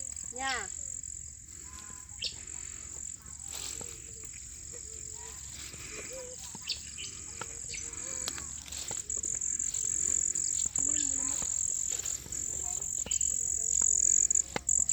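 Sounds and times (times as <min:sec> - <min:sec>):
crickets droning: 0:00.0 - 0:14.9
faint short insect calls: 0:00.0 - 0:14.9.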